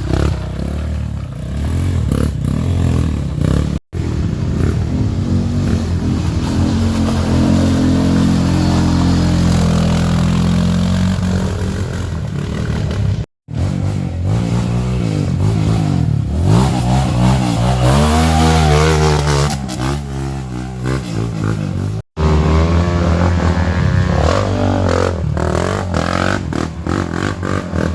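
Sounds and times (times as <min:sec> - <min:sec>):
motorcycle engines revving: 0:00.0 - 0:27.9.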